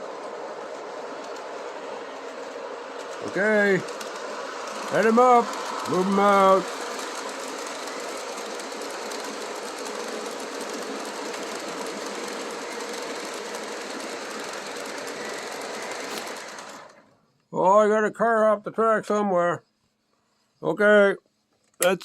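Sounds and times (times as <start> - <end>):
model train running on track: 0.0 - 19.6, 20.6 - 21.2.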